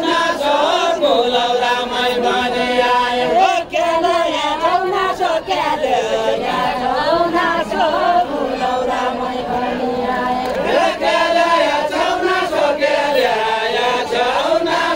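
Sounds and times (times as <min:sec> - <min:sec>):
group singing without instruments: 0:00.0 - 0:14.9.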